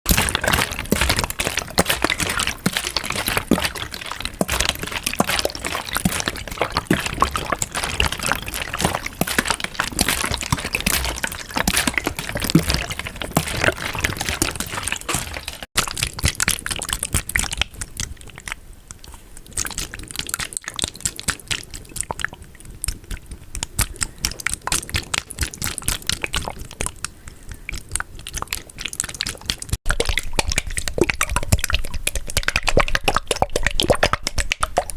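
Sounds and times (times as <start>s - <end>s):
water pouring and dripping: 0.1s - 34.9s.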